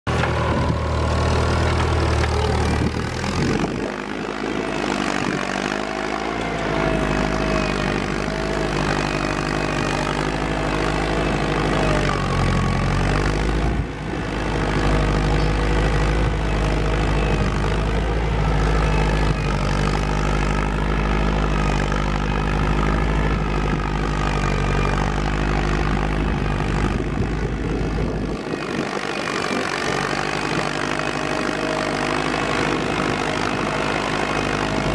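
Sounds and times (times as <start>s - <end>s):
tractor engine running under load: 0.1s - 34.9s.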